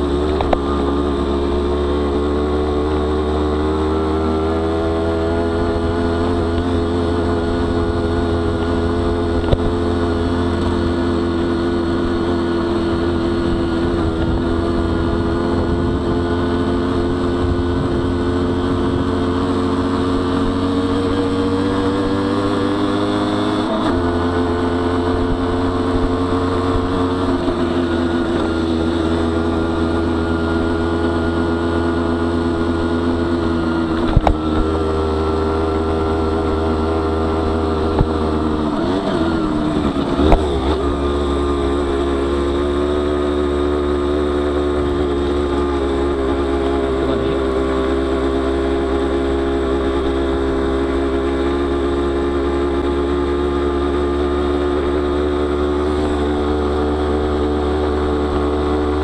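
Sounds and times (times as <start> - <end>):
two-stroke motorcycle engine: 0.0 - 59.0.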